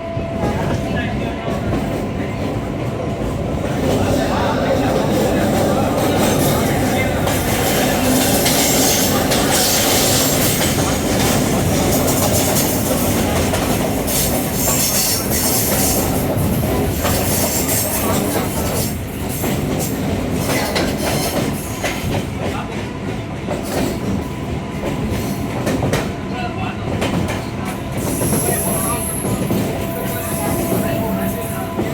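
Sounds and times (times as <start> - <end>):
train running noise: 0.0 - 31.9.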